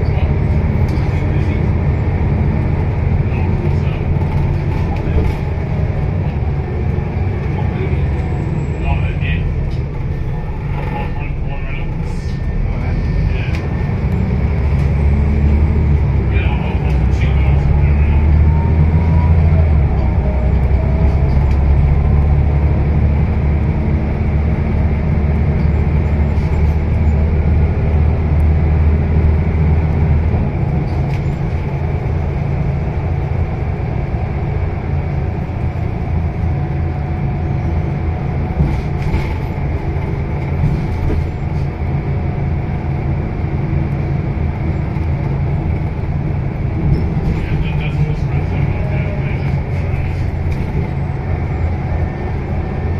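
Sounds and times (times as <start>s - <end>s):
bus engine drone: 0.0s - 52.9s
road noise: 0.0s - 52.9s.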